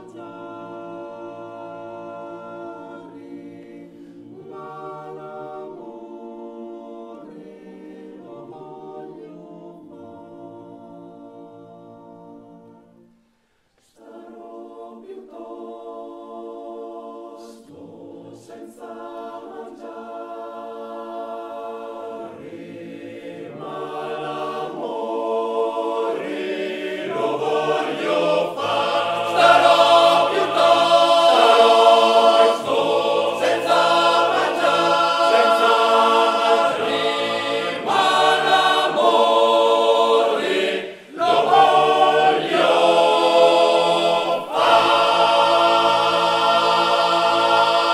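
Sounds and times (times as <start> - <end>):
male choir singing a cappella: 0.0 - 13.2, 13.8 - 47.9.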